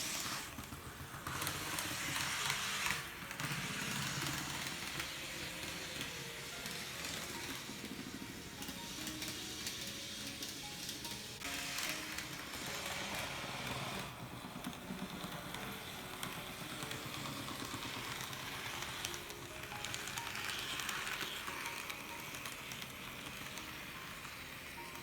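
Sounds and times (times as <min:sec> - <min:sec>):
model train motor buzzing: 0:00.0 - 0:25.0
soft background music: 0:00.0 - 0:25.0.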